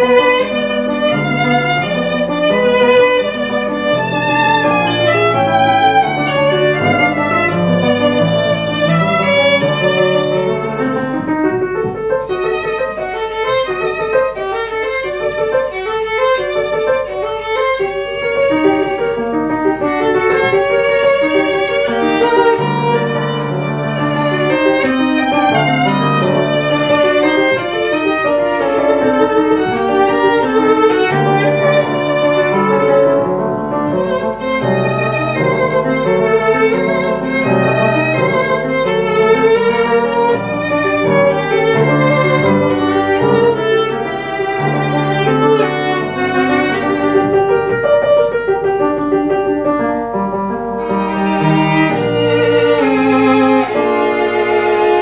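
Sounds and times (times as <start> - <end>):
piano chords: 0.0 - 55.0
violin melody with vibrato: 0.0 - 55.0.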